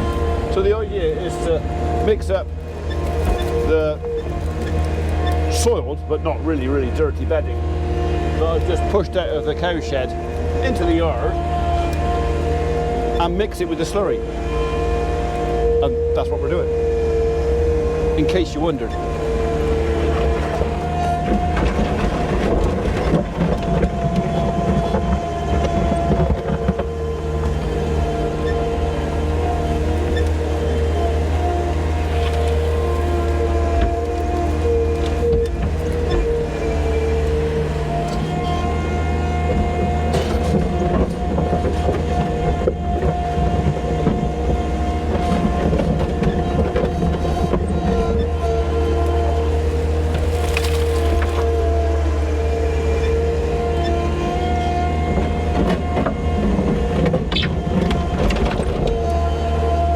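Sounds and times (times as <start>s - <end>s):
loading machine engine running: 0.0s - 59.9s.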